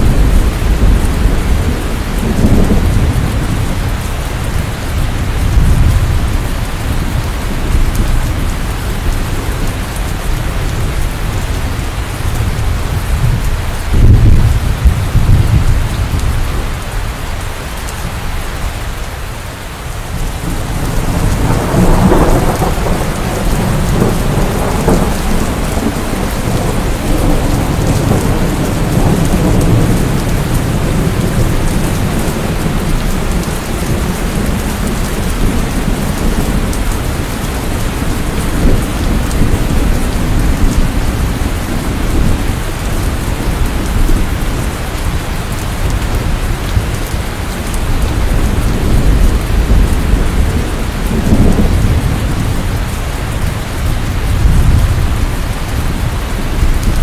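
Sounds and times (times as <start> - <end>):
thunder clap: 0.0 - 9.7, 11.7 - 16.8, 20.2 - 57.0
rolling thunder rumble: 0.0 - 19.1, 20.0 - 57.0
steady rain: 0.0 - 57.0.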